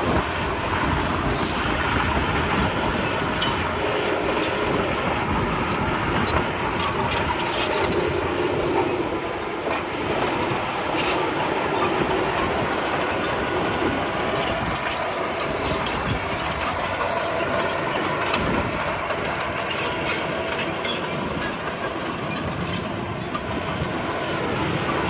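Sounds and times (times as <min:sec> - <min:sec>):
diesel engine running: 0:00.0 - 0:25.0
steel tracks clanking: 0:00.0 - 0:25.0.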